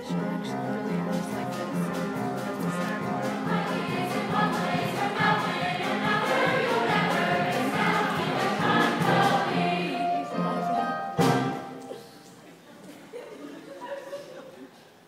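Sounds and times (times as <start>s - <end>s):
choral singing with accompaniment: 0.0s - 12.1s.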